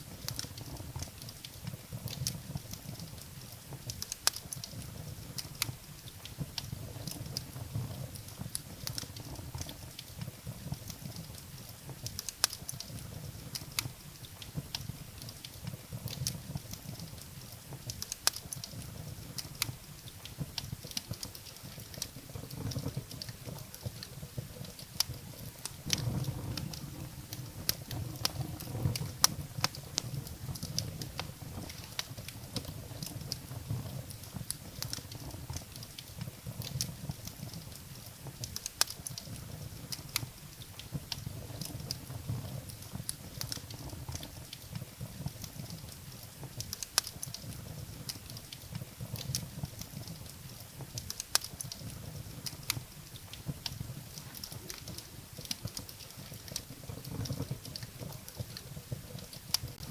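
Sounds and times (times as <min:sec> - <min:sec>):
firewood crackling and popping: 0:00.0 - 0:59.9
low fire rumble: 0:00.0 - 0:59.9.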